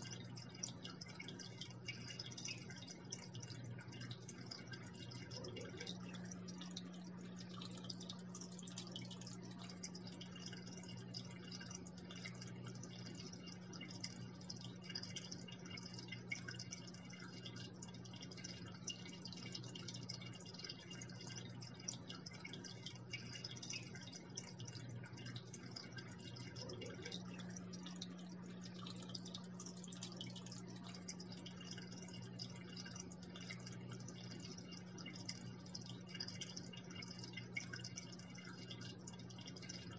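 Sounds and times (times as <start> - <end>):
water trickling into aquarium: 0.0 - 39.9.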